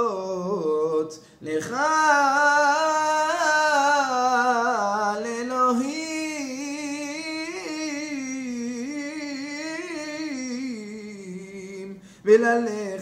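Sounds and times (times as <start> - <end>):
man chanting melismatically: 0.0 - 13.0.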